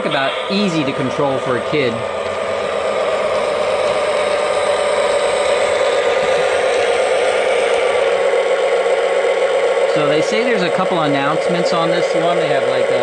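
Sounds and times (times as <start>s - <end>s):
toy diesel engine sound effects: 0.0s - 13.0s
toy train rattling whir: 0.1s - 13.0s.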